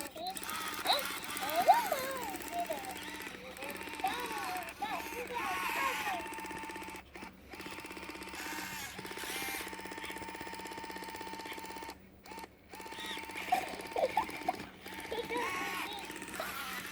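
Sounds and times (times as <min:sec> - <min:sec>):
doll mechanism clicking rapidly: 0:00.0 - 0:16.9
faint motor whine: 0:00.0 - 0:16.9.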